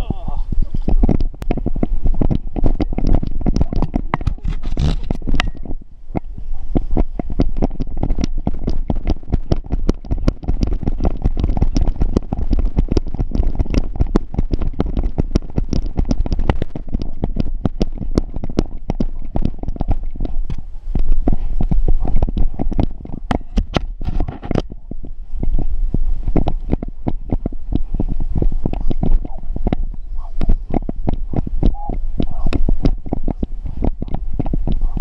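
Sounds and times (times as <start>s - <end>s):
steady low rumble: 0.0s - 35.0s
camera knocking on running dog: 0.8s - 20.6s, 21.2s - 25.6s, 26.2s - 35.0s.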